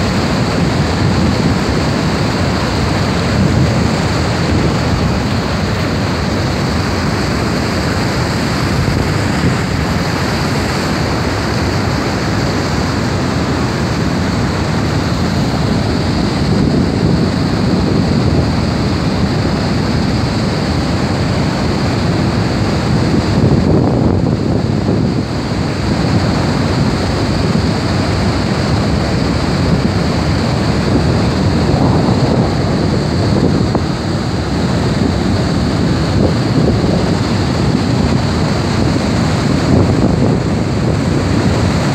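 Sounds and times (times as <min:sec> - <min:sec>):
waterfall rushing: 0:00.0 - 0:41.9
wind buffeting microphone: 0:00.0 - 0:41.9.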